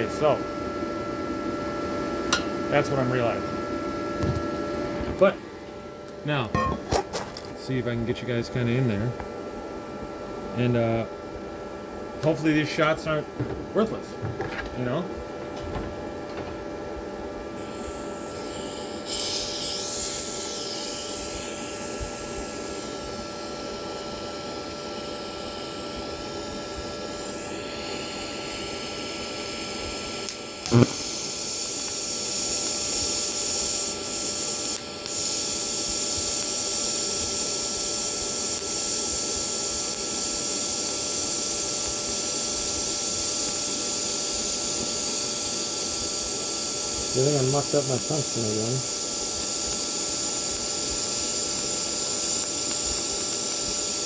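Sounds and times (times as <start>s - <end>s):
welding arc hiss: 0.0s - 9.4s, 12.2s - 54.0s.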